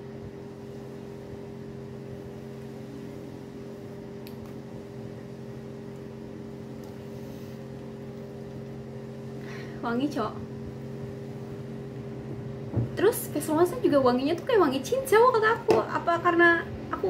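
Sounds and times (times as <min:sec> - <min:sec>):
low machine hum with tones: 0:00.0 - 0:17.0.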